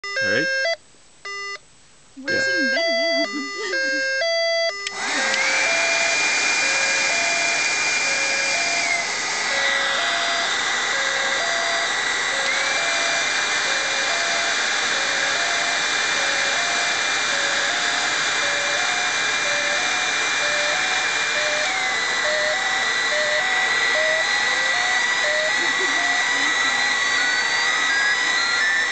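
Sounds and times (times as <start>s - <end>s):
buzzer alternating low tones: 0.0s - 1.6s, 2.2s - 28.9s
heat gun blowing with high whine: 4.7s - 28.9s.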